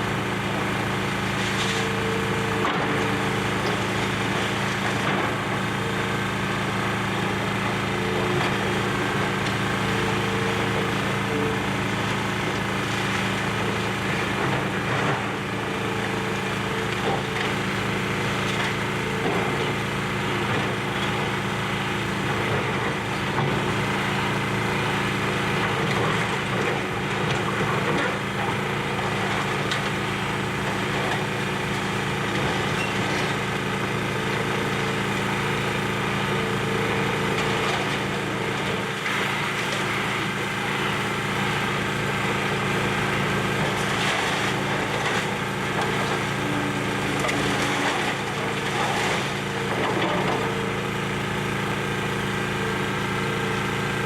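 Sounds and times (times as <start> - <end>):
excavator engine running: 0.0 - 54.0.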